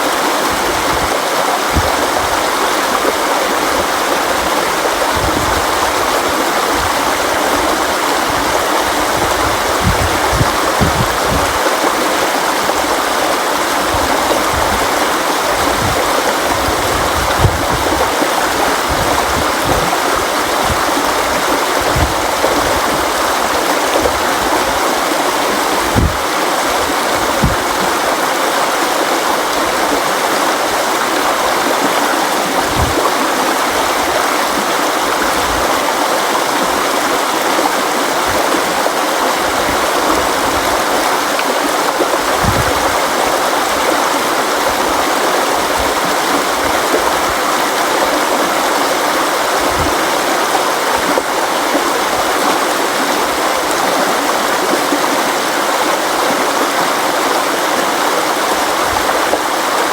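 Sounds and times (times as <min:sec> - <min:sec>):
stream flowing over rocks: 0:00.0 - 0:59.9
water gurgles and thumps: 0:00.0 - 0:59.9.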